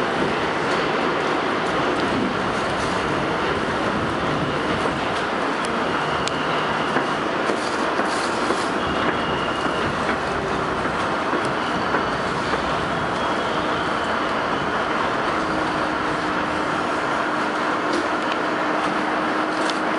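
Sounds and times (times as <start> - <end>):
subway train wheels rumbling: 0.0 - 19.9.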